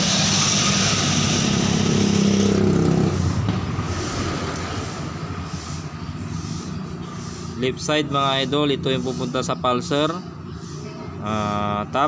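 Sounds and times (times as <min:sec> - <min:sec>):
vehicle engine passing by: 0:00.0 - 0:12.0.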